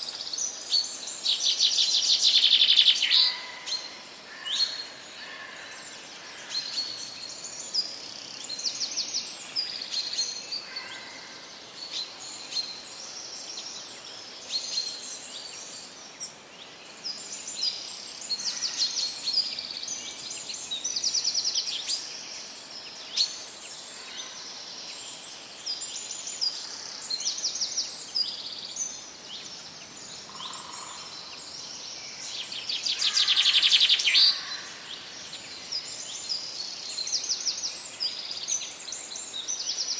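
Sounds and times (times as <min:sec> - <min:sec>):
birds chirping and singing: 0:00.4 - 0:39.9.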